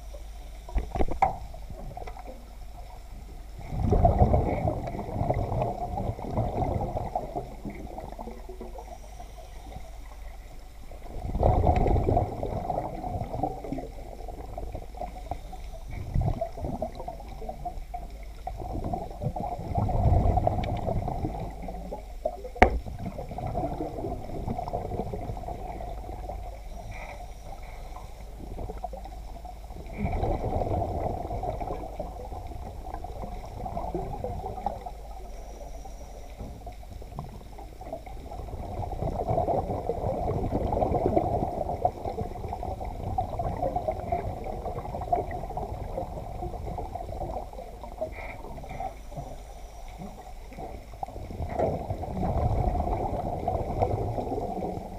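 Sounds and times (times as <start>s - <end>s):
muffled underwater water noise: 0.0s - 54.9s.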